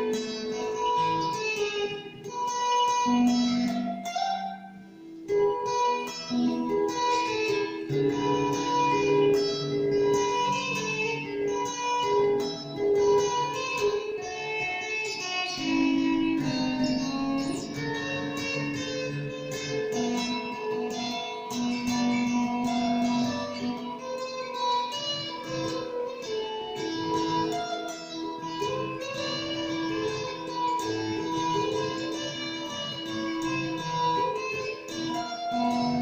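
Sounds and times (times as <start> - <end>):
electric guitar notes: 0.0 - 36.0.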